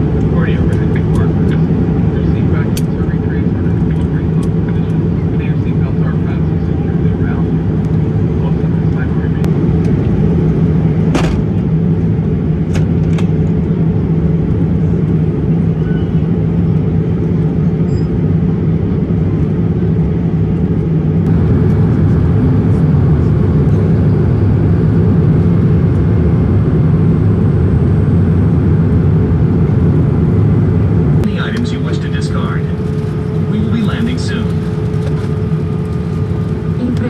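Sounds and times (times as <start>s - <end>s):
airliner cabin drone: 0.0s - 37.0s
low hum: 0.0s - 37.0s.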